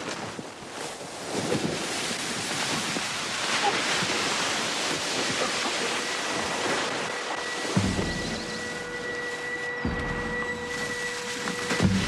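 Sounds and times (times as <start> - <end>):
dry leaves rustling and crunching: 0.1 - 12.0.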